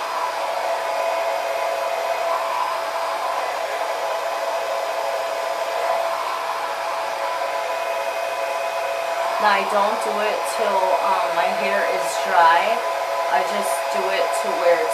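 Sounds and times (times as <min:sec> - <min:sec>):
hair dryer running: 0:00.0 - 0:14.9.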